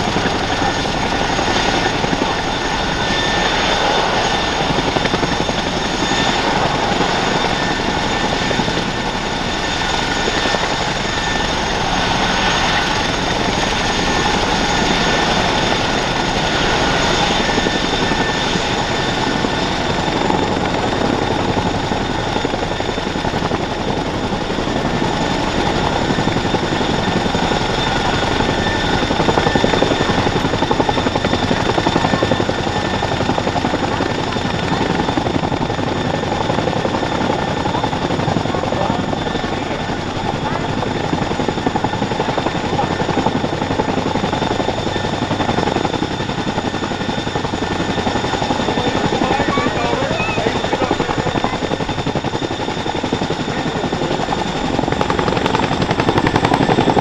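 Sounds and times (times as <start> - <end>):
helicopter rotor noise: 0.0 - 57.0
high turbine engine whine: 0.0 - 57.0.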